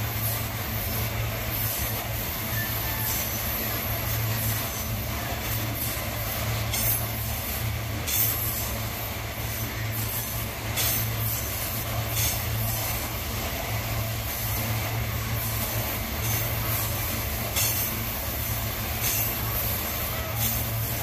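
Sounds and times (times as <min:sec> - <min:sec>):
freight train wagons rolling: 0:00.0 - 0:21.0
wheels clacking over rail joints: 0:02.5 - 0:08.9, 0:09.8 - 0:21.0.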